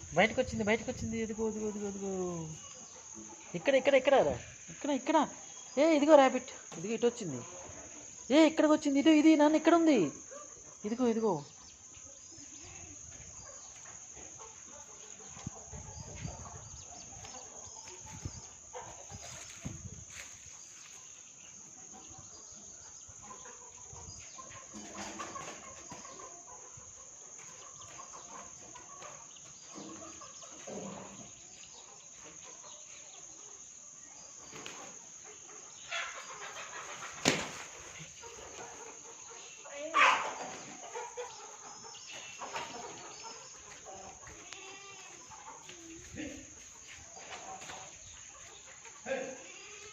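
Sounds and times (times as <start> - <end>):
chickens clucking: 0.0 - 8.4, 9.4 - 49.9.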